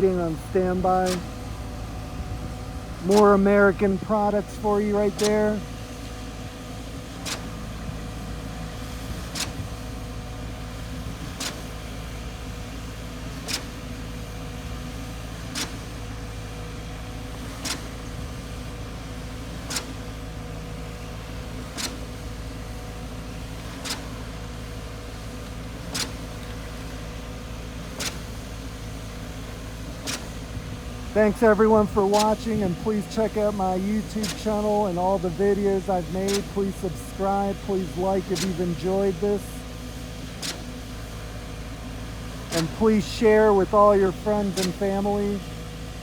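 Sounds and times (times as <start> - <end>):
diesel engine hum: 0.0 - 46.0.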